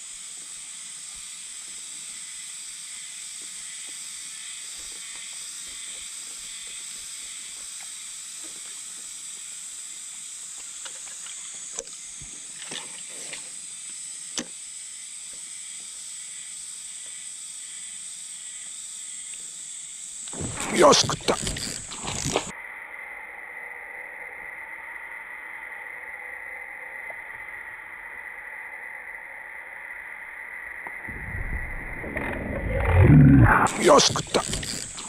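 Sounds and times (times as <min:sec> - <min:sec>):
high-pitched hiss: 0:00.0 - 0:35.0.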